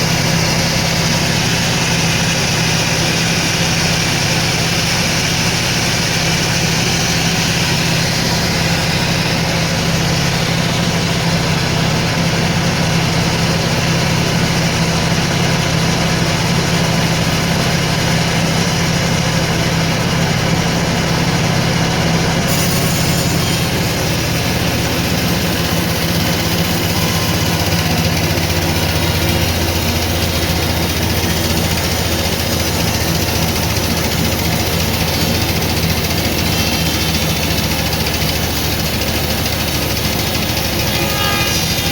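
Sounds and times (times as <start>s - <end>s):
sawmill machinery humming: 0.0s - 41.9s.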